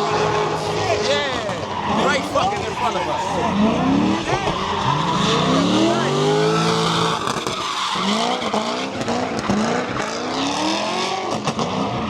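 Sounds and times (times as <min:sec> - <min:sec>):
tyres squealing: 0:00.0 - 0:09.8
car engine revving: 0:00.0 - 0:12.0.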